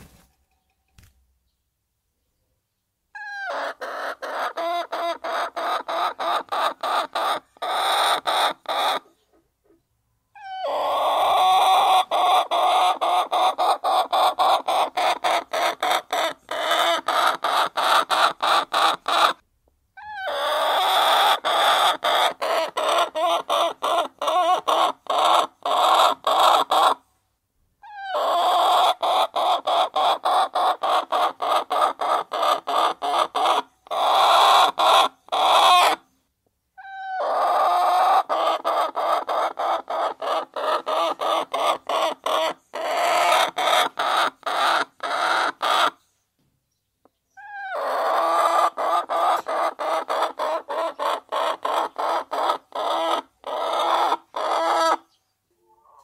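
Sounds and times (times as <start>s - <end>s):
hens clucking: 3.2s - 9.8s, 10.4s - 19.4s, 20.0s - 27.0s, 27.9s - 36.0s, 36.8s - 46.0s, 47.4s - 56.0s.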